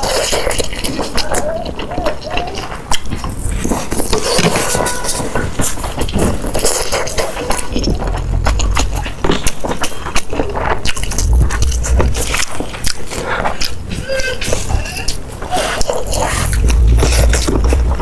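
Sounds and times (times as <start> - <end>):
chewing and crunching food: 0.0 - 18.0.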